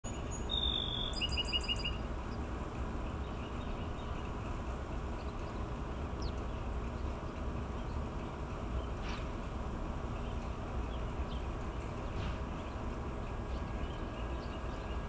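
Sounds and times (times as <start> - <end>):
songbird calling: 0.0 - 9.4, 10.0 - 15.0
low outdoor rumble: 0.0 - 15.0.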